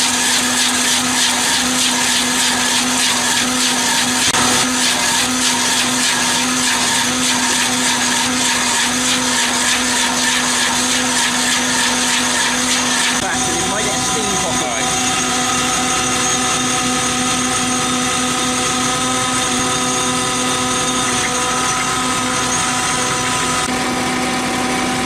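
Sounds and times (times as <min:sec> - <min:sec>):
wood grinding rattle: 0:00.0 - 0:23.7
shredding machine hum: 0:00.0 - 0:25.0.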